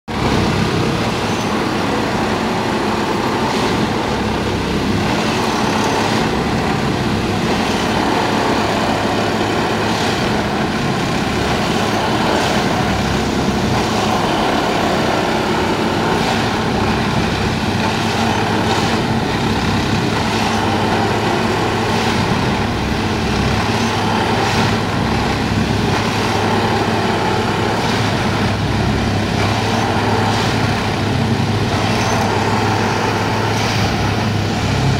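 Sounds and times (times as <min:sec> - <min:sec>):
diesel engine and hydraulics running: 0:00.1 - 0:34.9.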